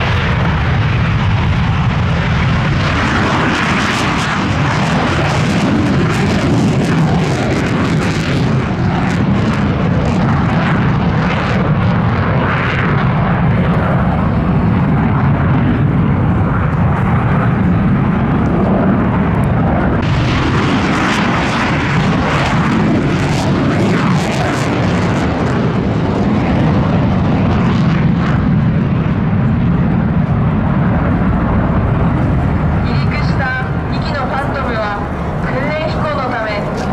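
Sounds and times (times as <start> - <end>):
jet engines roaring in flight: 0.0 - 36.9.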